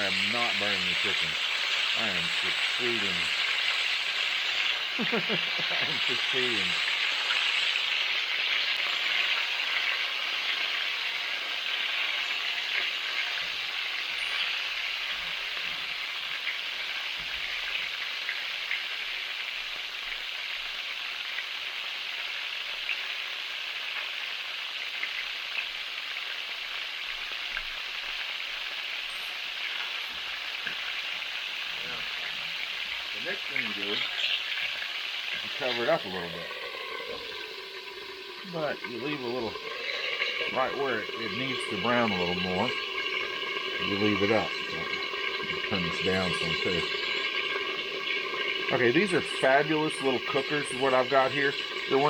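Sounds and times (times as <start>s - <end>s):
chicken sizzling in hot oil: 0.0s - 52.0s
oil popping and crackling: 0.0s - 52.0s.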